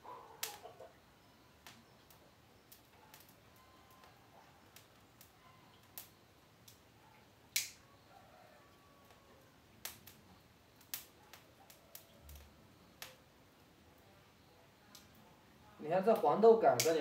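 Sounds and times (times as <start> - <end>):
dry stalks crackling in flame: 0.0 - 17.0.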